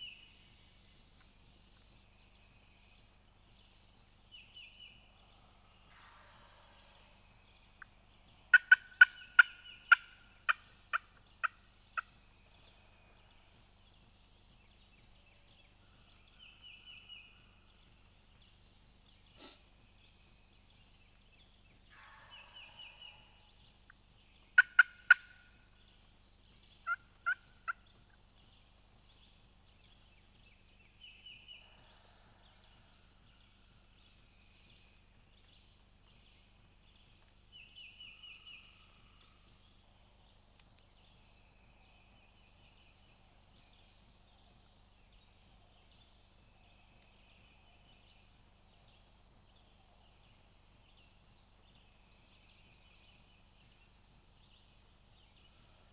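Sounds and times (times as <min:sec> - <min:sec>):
songbirds singing faintly: 0:00.0 - 0:55.9.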